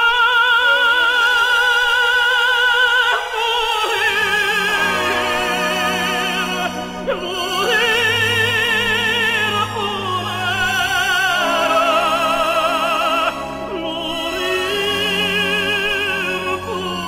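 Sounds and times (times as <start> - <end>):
tenor singing with vibrato: 0.0 - 17.0
sustained accompaniment: 0.6 - 17.0.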